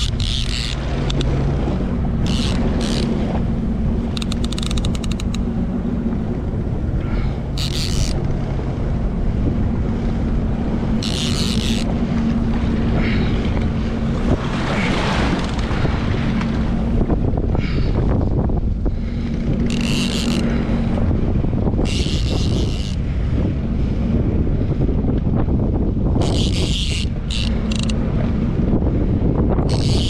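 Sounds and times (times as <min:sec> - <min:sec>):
jet ski engine running: 0:00.0 - 0:30.0
wind and water rush: 0:00.0 - 0:30.0.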